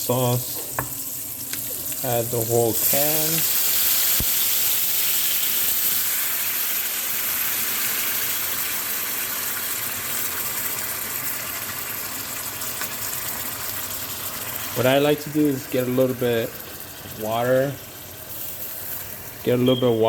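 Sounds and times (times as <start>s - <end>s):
meat sizzling in hot pan: 0.0s - 19.7s
sauce pouring into pan: 0.8s - 19.5s.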